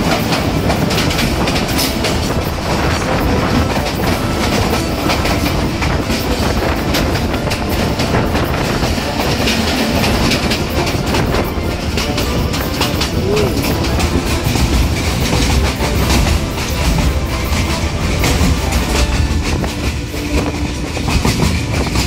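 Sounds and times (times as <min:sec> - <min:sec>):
passing train coaches: 0:00.0 - 0:22.0
rush of track and wind: 0:00.0 - 0:22.0
train wheels clattering: 0:00.0 - 0:22.0.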